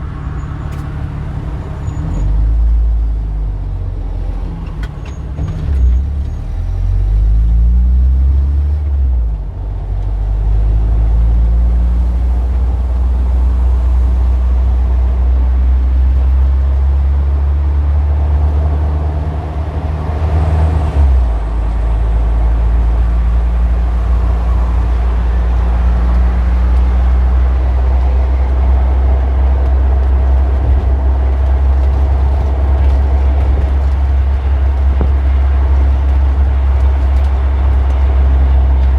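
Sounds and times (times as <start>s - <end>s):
heavy engine rumbling: 0.0s - 38.9s
street traffic: 0.0s - 38.9s.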